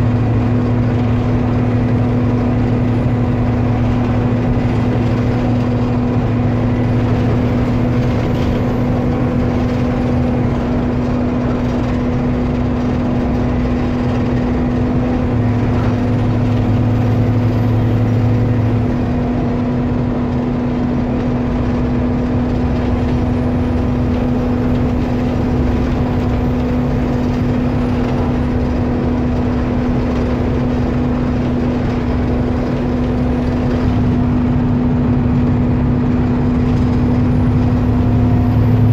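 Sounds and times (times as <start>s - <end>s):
bus diesel engine roar: 0.0s - 38.9s.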